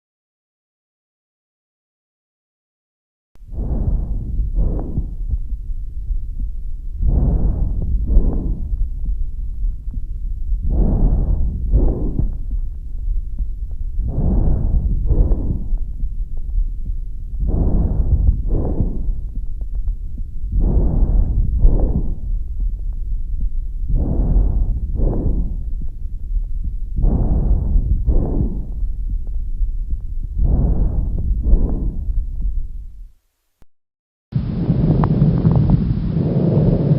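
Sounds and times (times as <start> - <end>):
breath sounds through stethoscope: 3.4 - 33.1
low rumble of body noise: 3.4 - 33.2, 34.4 - 36.9.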